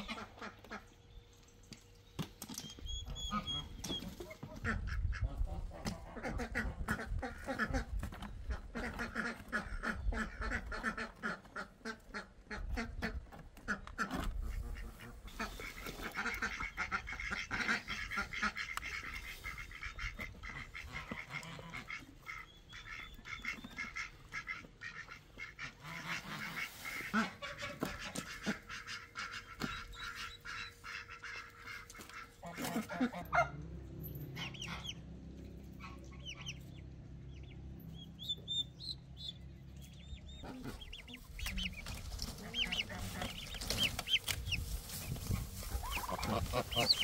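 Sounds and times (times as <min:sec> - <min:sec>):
geese calling: 0:02.6 - 0:33.6, 0:34.2 - 0:47.0.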